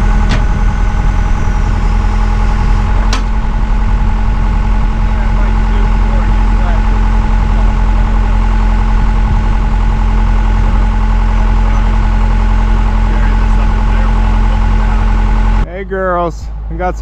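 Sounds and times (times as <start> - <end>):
backhoe engine running: 0.0 - 17.0.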